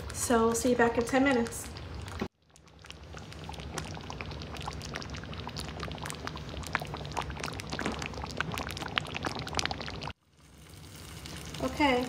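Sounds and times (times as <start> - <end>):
sauce bubbling in a skillet: 0.0 - 12.0.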